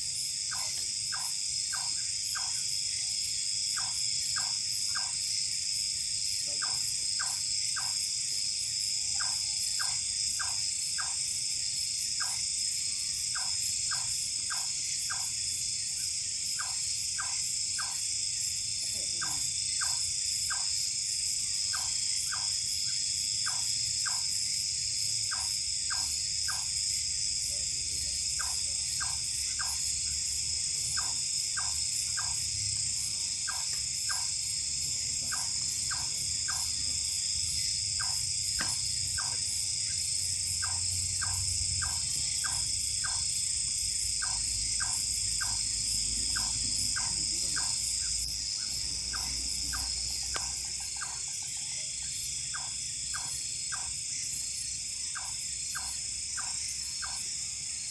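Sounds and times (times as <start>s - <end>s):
crickets chirping: 0.0s - 57.9s
insects shrilling: 0.0s - 57.9s.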